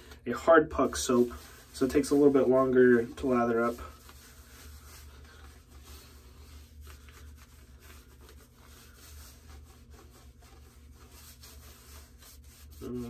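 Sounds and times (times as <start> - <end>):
hands rubbing lather on scalp: 0.0 - 13.0.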